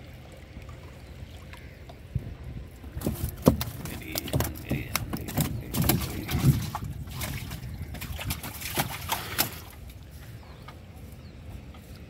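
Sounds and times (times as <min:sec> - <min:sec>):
water dripping and splashing: 0:00.0 - 0:10.2.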